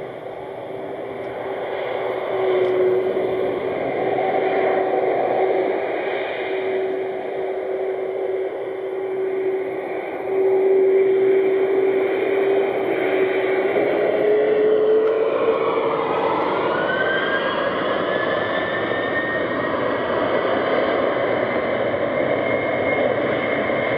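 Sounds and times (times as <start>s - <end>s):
jet engines whining: 0.0s - 23.9s.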